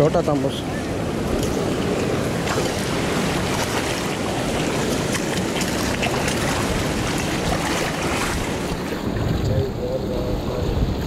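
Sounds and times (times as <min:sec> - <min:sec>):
seawater splashing around rocks: 0:00.2 - 0:09.5.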